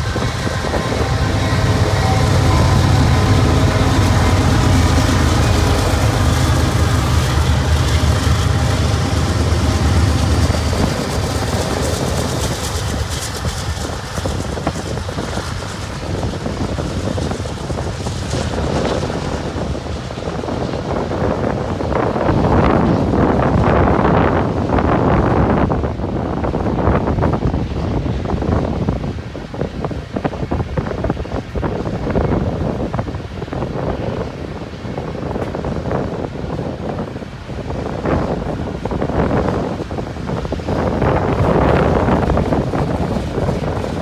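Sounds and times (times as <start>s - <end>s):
diesel locomotive engines droning: 0.0s - 44.0s
freight cars rumbling on rails: 0.0s - 44.0s.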